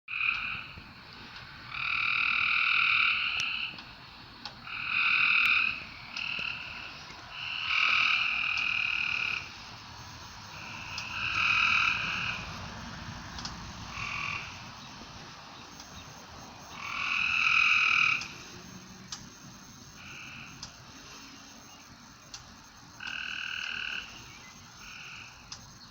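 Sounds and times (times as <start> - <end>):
frog calling: 0.1 - 25.9.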